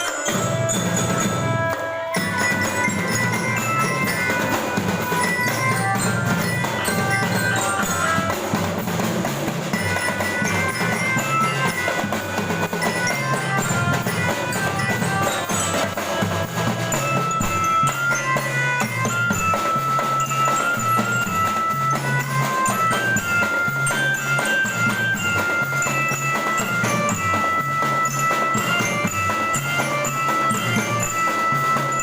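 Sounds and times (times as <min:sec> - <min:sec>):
drums keeping steady beat: 0:00.0 - 0:32.0.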